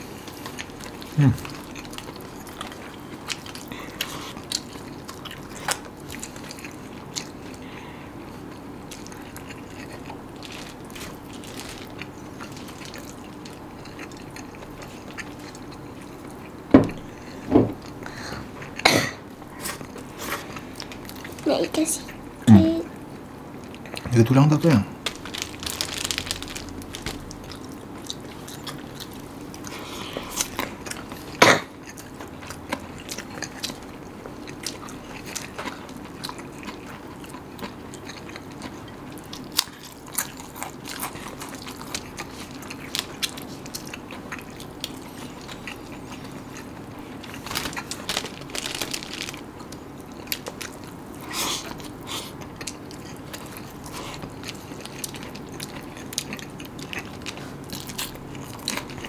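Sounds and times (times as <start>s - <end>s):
wet chewing and crunching: 0.0s - 21.5s, 25.0s - 59.0s.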